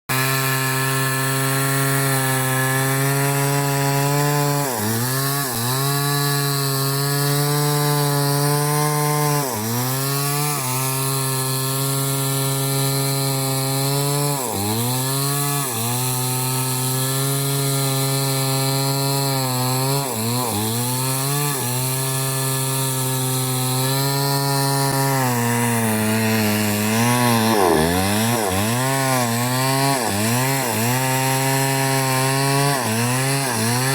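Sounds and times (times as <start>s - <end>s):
chainsaw running at high revs: 0.1s - 33.9s.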